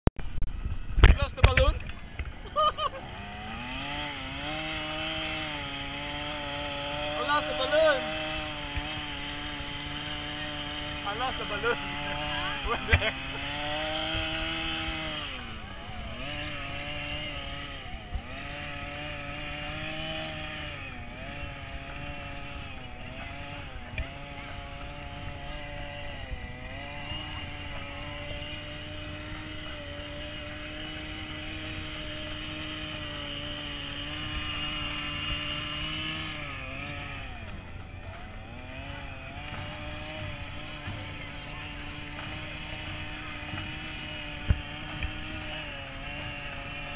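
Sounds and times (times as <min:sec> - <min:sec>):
small two-stroke engine running: 0:00.2 - 0:46.9.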